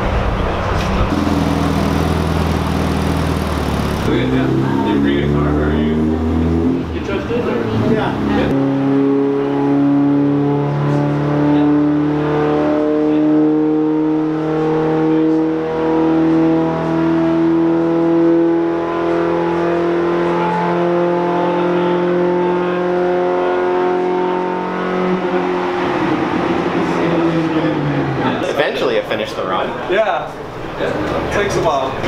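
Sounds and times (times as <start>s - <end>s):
car engine at full throttle: 0.0s - 28.4s.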